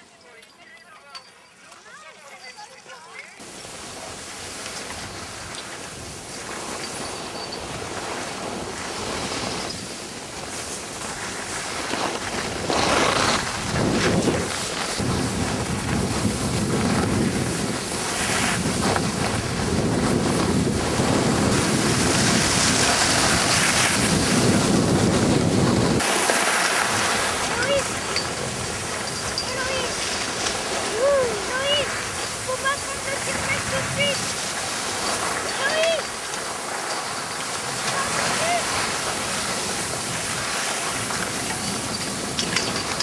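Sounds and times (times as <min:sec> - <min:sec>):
skis sliding on snow: 0:01.9 - 0:43.0
wind on microphone: 0:03.4 - 0:43.0.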